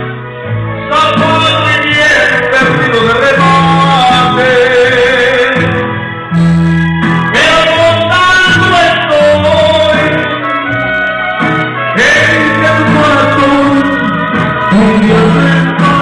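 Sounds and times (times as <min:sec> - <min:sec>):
loud backing music: 0:00.0 - 0:16.0
man singing into microphone: 0:00.8 - 0:06.5, 0:07.1 - 0:16.0.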